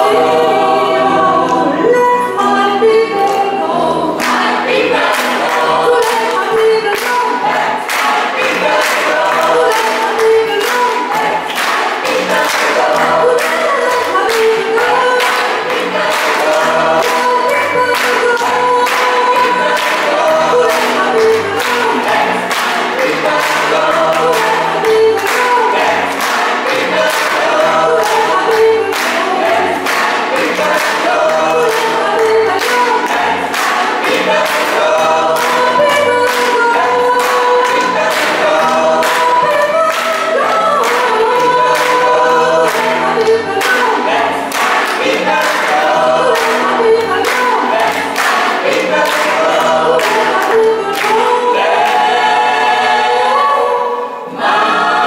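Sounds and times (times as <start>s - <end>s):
choir singing in harmony: 0.0s - 55.0s
rhythmic hand clapping: 3.1s - 53.1s.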